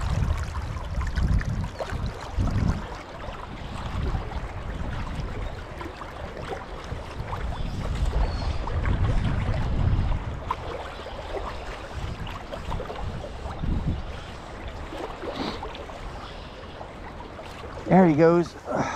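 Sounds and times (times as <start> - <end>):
river water running over riffle: 0.0 - 18.9
wind buffeting microphone: 0.0 - 18.9.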